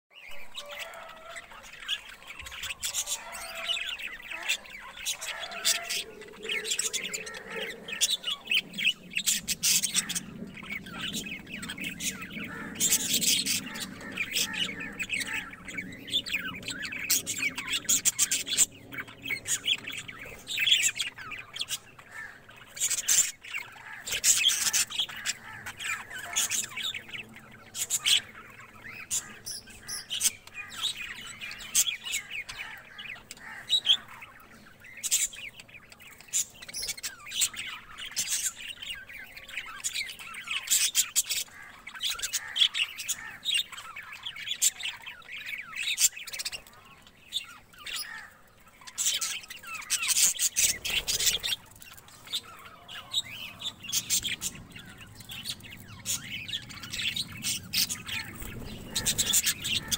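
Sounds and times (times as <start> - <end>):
budgerigars chirping and squawking: 0.2 - 59.9.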